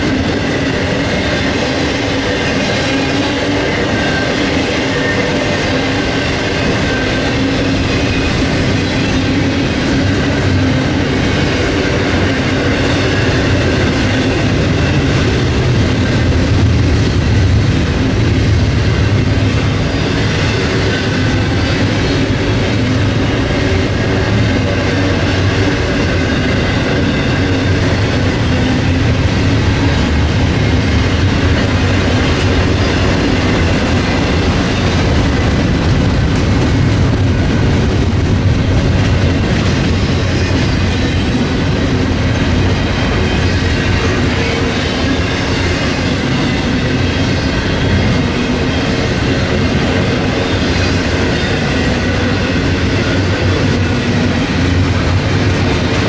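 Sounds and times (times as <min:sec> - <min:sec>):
freight train rumbling on rails: 0:00.0 - 0:56.0.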